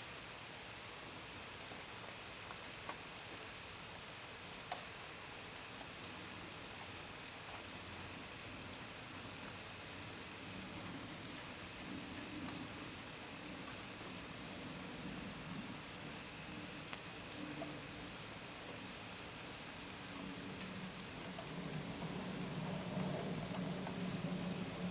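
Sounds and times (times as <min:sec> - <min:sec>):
rain falling: 0:00.1 - 0:24.9
crickets trilling: 0:00.5 - 0:24.9.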